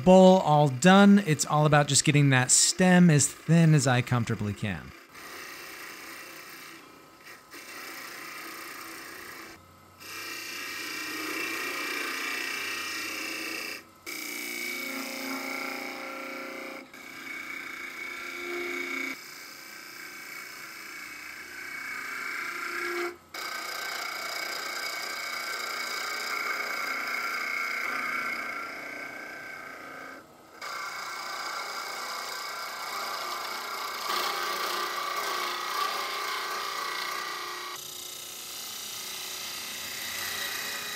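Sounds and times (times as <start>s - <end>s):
turning tool cutting wood: 0.0s - 40.9s
wood lathe running: 4.9s - 40.9s.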